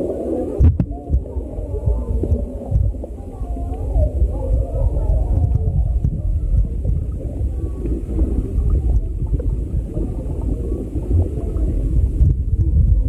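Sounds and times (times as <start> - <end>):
muffled underwater rumble: 0.0 - 13.0.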